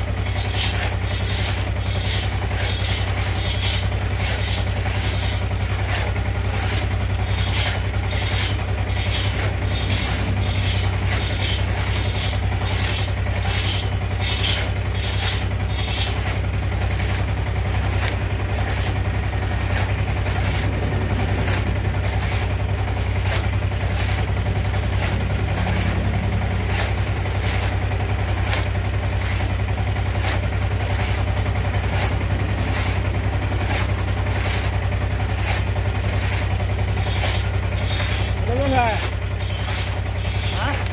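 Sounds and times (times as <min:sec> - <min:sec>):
hand saws rasping through log: 0:00.0 - 0:40.9
low engine-like hum: 0:00.0 - 0:40.9.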